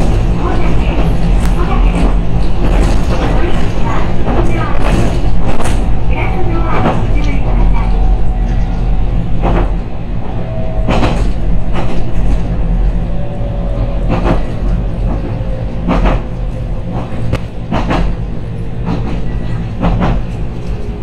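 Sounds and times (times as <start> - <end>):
train interior hum: 0.0 - 21.0.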